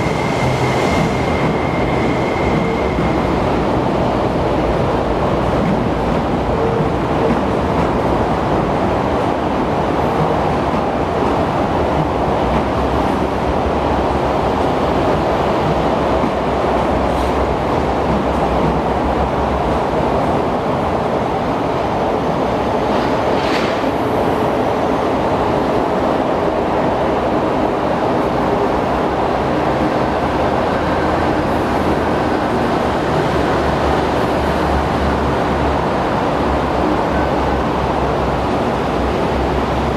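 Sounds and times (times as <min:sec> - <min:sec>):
deep train hum: 0:00.0 - 0:39.9.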